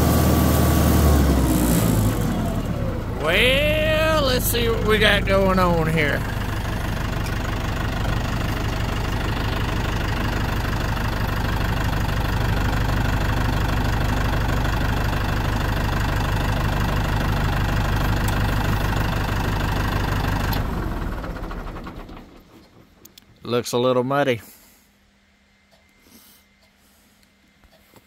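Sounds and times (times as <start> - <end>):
tractor engine idling: 0.0 - 23.3.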